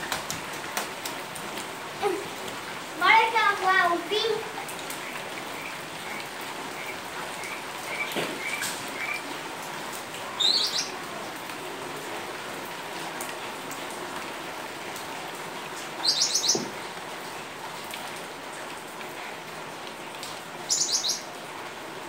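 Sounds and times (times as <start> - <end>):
rain on wet pavement: 0.0 - 22.0.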